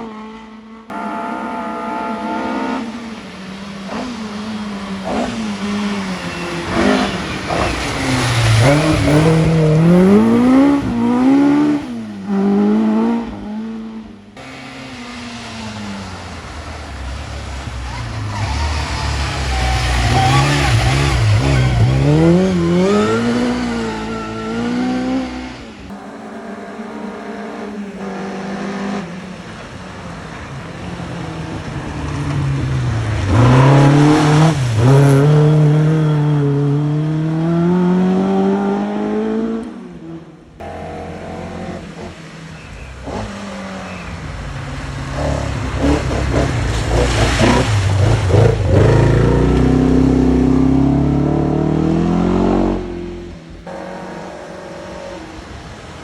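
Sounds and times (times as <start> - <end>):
rally cars revving past: 0.0 - 56.0.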